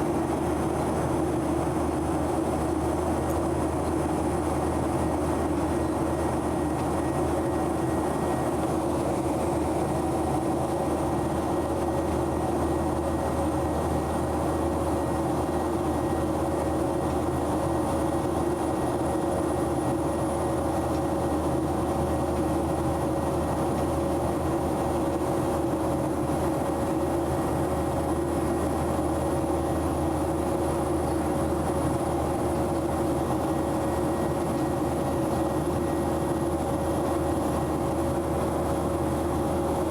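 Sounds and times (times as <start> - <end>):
airplane cabin rumble and whine: 0.0 - 39.9.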